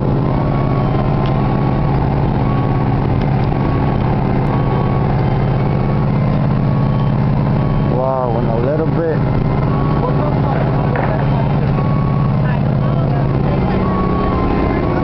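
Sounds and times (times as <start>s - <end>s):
large vehicle engine idling: 0.0s - 15.0s.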